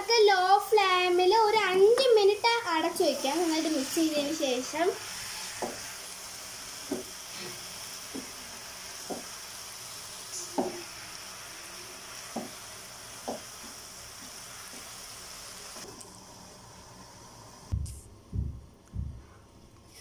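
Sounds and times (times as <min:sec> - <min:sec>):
food sizzling in a pan: 0:00.0 - 0:17.8.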